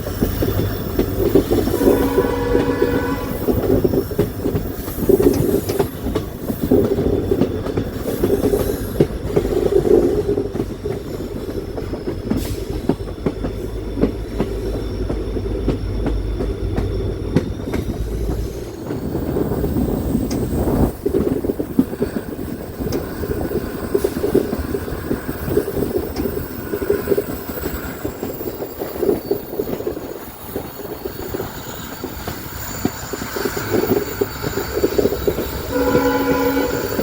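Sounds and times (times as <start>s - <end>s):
train rumbling on rails: 0.0s - 37.0s
train wheel squeal: 0.0s - 37.0s
wheels clicking over rail joints: 0.0s - 37.0s.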